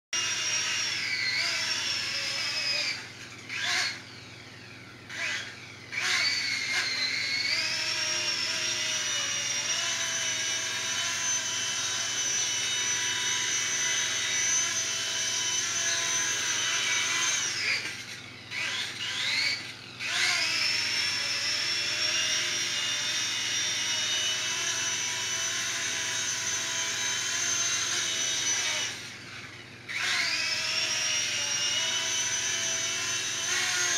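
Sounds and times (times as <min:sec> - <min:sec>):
model helicopter motor whine: 0:00.2 - 0:33.9.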